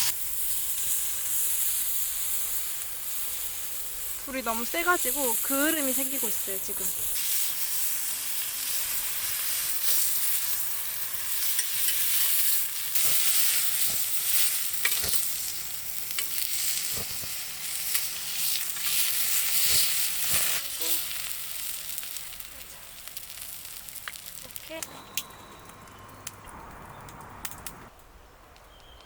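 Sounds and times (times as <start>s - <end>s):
meat sizzling on a grill: 0.0s - 27.1s.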